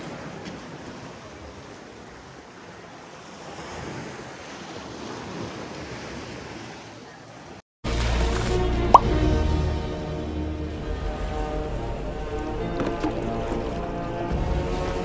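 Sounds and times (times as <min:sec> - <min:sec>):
sea waves: 0:00.0 - 0:15.0.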